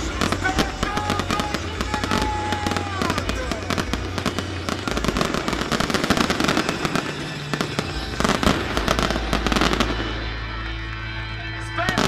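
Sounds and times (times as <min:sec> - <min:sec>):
fireworks bangs and crackles: 0:00.0 - 0:11.0, 0:11.7 - 0:12.0.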